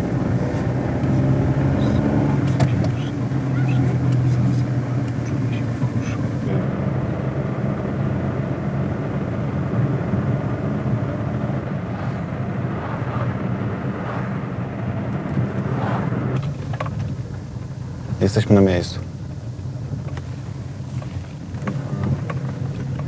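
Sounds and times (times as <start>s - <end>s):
car engine hum: 0.0s - 23.0s
road noise: 0.0s - 23.0s.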